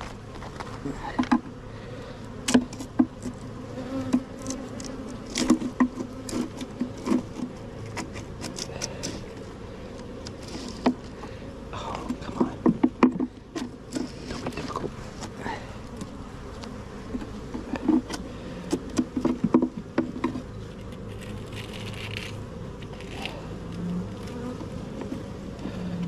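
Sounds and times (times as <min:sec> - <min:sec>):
honeybees buzzing: 0:00.0 - 0:26.0
hive tool prying at frames: 0:00.5 - 0:01.6, 0:02.4 - 0:09.4, 0:10.1 - 0:11.2, 0:11.9 - 0:25.6.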